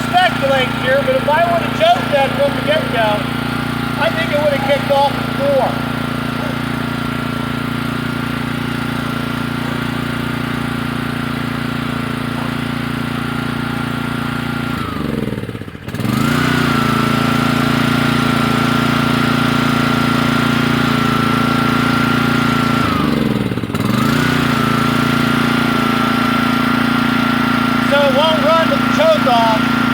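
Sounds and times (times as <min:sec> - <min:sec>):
small engine running and sagging: 0:00.0 - 0:29.9.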